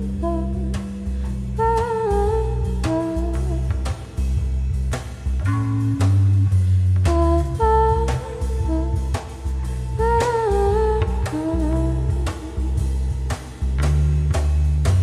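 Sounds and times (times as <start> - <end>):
background music with beat and bass: 0.0 - 15.0.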